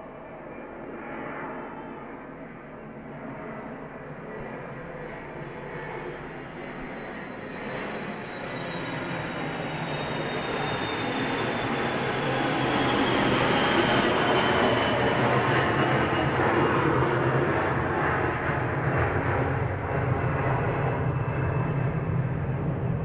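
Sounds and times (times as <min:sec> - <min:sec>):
airplane passing overhead: 0:00.0 - 0:23.0.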